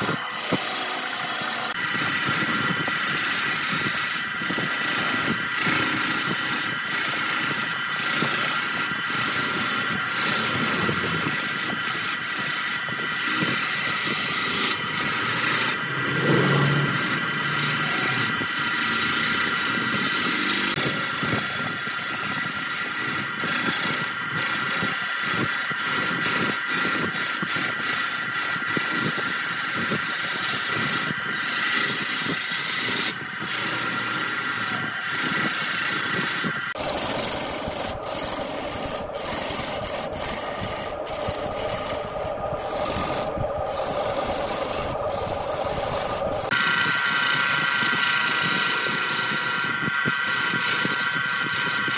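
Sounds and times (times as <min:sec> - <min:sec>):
lathe motor whine: 0:00.0 - 0:51.9
tool scraping spinning wood: 0:00.0 - 0:51.9.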